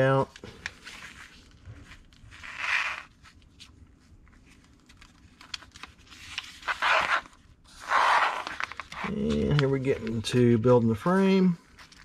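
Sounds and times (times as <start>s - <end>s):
paper rustling: 0.0s - 12.0s
paper page turning: 0.2s - 10.4s, 11.0s - 12.0s.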